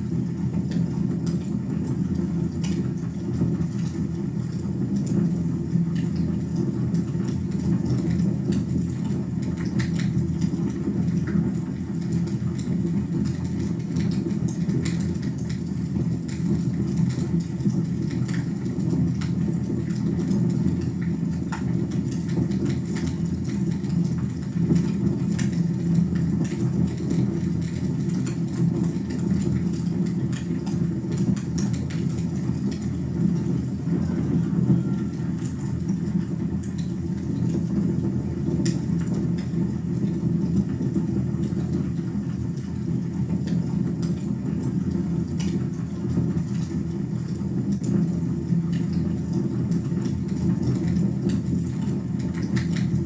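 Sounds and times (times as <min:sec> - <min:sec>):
fire crackling in fireplace: 0:00.0 - 0:53.0.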